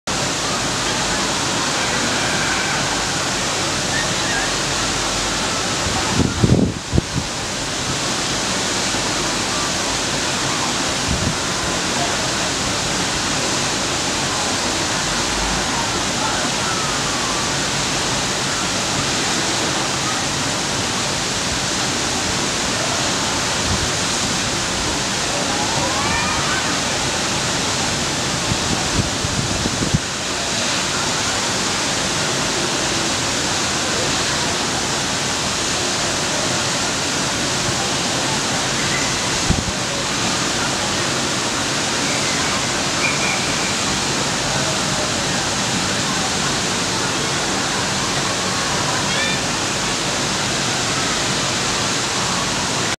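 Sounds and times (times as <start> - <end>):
water rushing from waterfall: 0.0 - 52.9.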